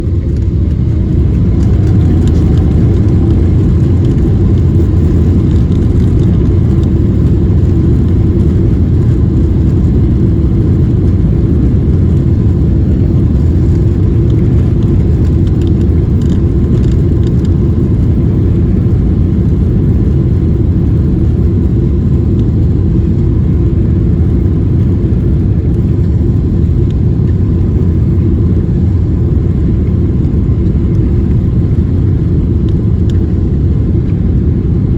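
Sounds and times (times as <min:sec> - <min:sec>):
faint rising whine: 0:00.0 - 0:34.9
jet engines rumbling: 0:00.0 - 0:34.9.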